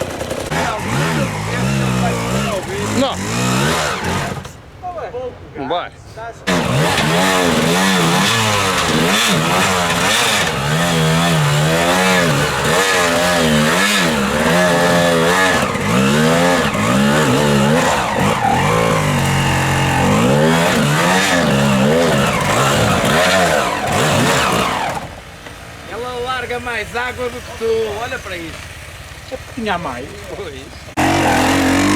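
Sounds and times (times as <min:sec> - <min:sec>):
motorcycle engine revving: 0:00.0 - 0:04.6, 0:06.5 - 0:25.9, 0:27.1 - 0:31.9.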